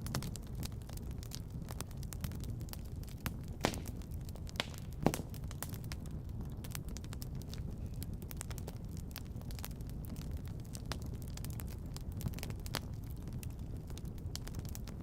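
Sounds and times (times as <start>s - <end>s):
low rumble of fire: 0.0s - 15.0s
wood fire crackling: 0.0s - 15.0s.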